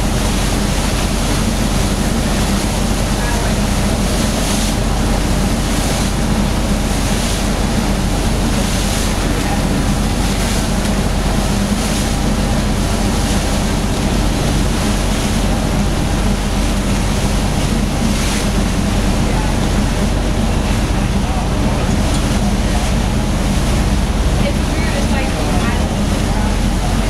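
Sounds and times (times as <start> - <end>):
boat engine droning: 0.0 - 27.0
water splashing along hull: 0.0 - 27.0.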